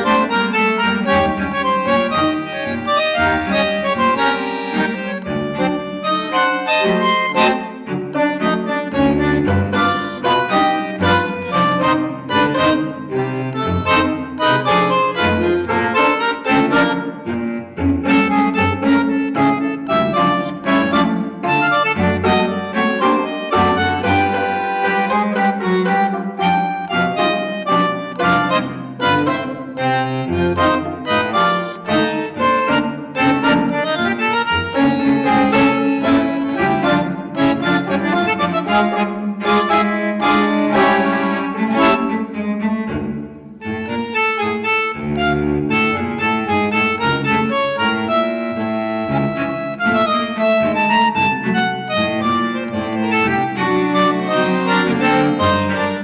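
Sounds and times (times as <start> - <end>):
instrumental melody: 0.0 - 56.0.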